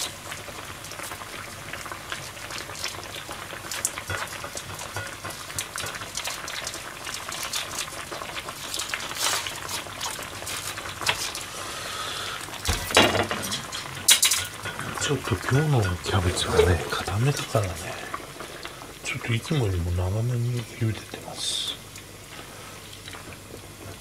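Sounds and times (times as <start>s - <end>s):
water boiling with bubbling: 0.0s - 24.0s.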